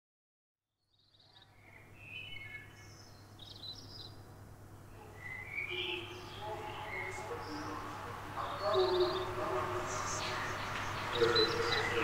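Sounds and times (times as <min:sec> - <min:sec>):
birds chirping: 0:00.9 - 0:12.0.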